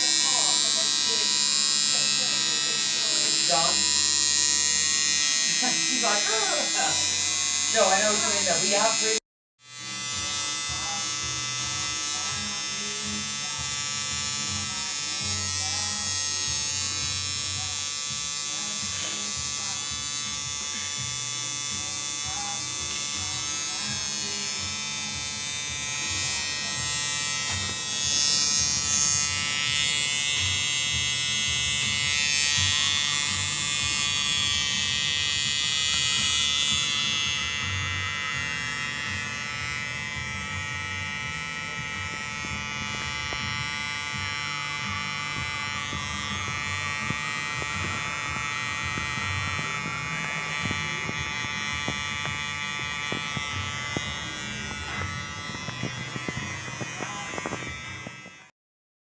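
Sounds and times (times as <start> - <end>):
tattoo machine buzzing: 0.0 - 58.5.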